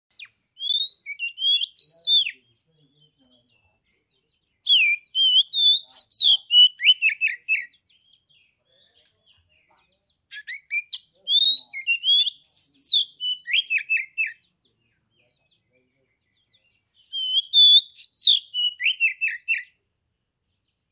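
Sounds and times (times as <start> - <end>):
bird singing whistled song: 0.1 - 9.4, 10.3 - 15.5, 16.2 - 19.8.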